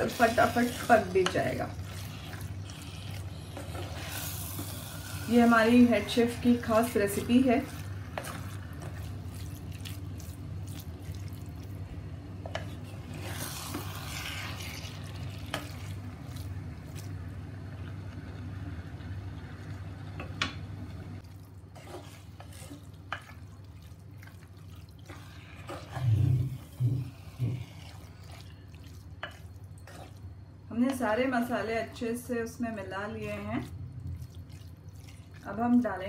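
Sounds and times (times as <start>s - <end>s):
spatula stirring thick mixture: 0.0s - 17.6s, 21.2s - 36.0s.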